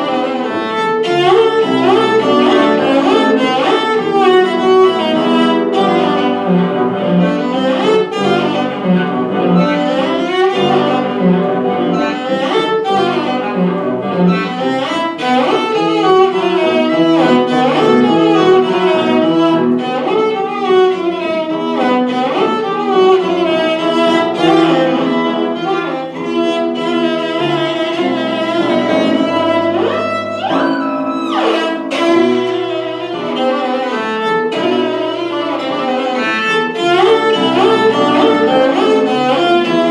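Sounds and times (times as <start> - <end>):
bowed strings playing classical music: 0.0 - 39.9.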